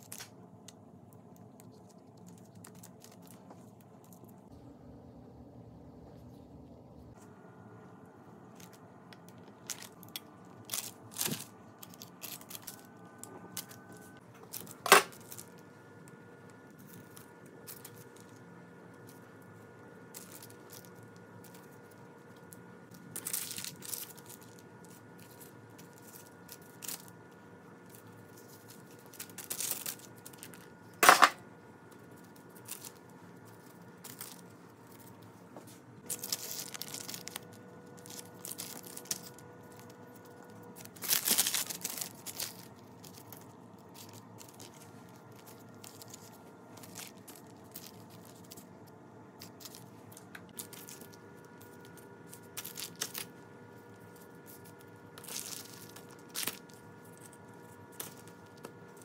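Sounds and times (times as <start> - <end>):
baking paper crinkling: 0.0 - 4.5, 8.4 - 59.0
pastry rustling: 0.0 - 4.6, 5.9 - 59.0
faint steady hum: 0.0 - 59.0.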